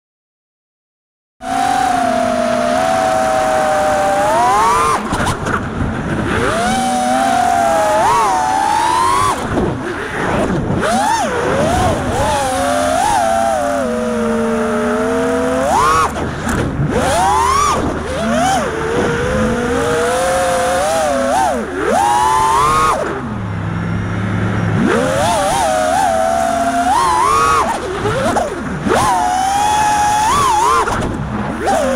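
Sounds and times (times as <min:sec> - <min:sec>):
drone motors whining: 0:01.4 - 0:31.9.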